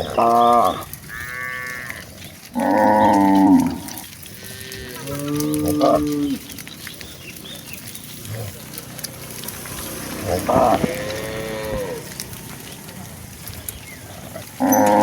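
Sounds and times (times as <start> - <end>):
cattle mooing: 0.0 - 15.0.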